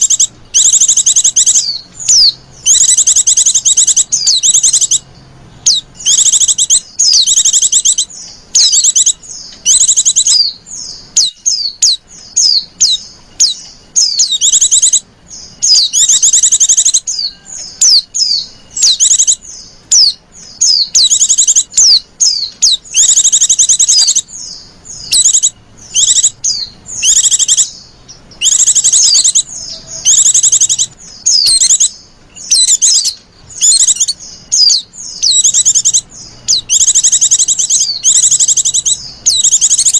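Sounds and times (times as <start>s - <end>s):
bird twittering chirps: 0.0s - 39.9s.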